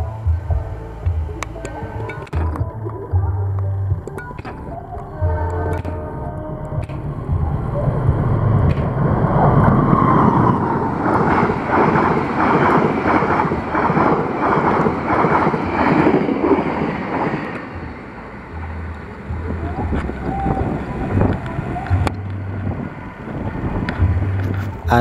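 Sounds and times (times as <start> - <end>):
wind buffeting microphone: 0.0 - 25.0
train rushing rumble: 4.0 - 25.0
wheels clacking on rails: 4.0 - 25.0.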